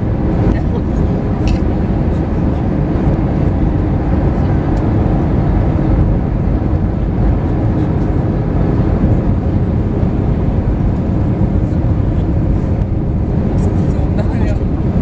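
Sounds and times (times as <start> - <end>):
jet engine and airflow roar: 0.0 - 15.0.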